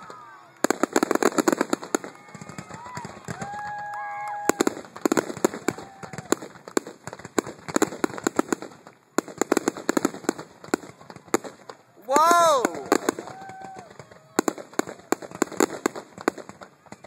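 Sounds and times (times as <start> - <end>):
fireworks crackling and bursting: 0.0 - 17.0.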